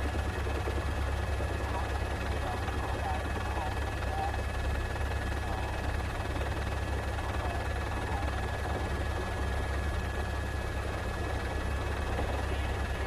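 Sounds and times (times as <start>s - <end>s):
helicopter rotors rumbling: 0.0s - 13.0s.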